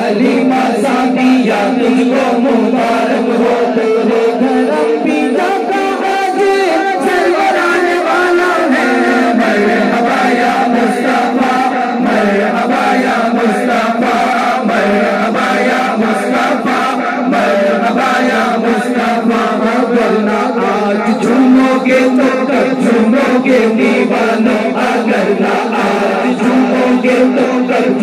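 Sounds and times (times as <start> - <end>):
group of voices chanting: 0.0 - 28.0.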